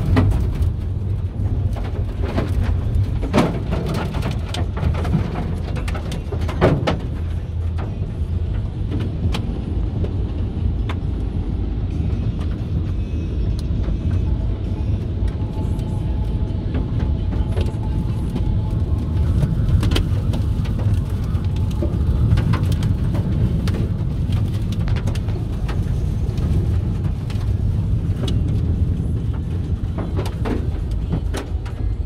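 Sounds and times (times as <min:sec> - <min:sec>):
rain and debris tapping windscreen: 0:00.0 - 0:32.0
road noise: 0:00.0 - 0:32.0
wind buffeting vehicle: 0:00.0 - 0:32.0.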